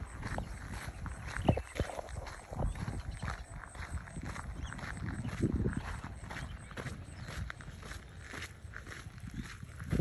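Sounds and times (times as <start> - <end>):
footsteps on dirt road: 0.0 - 10.0.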